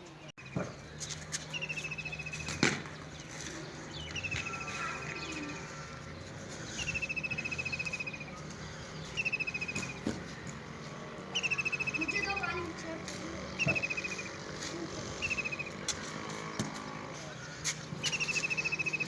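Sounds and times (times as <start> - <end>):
songbird trilling: 1.5 - 10.0, 11.2 - 12.7, 13.4 - 19.0.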